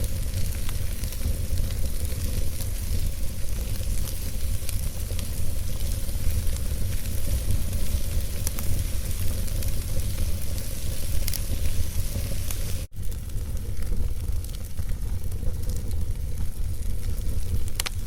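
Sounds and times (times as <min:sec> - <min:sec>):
fire crackles and pops: 0:00.0 - 0:18.0
logs burning in fireplace: 0:00.0 - 0:18.0.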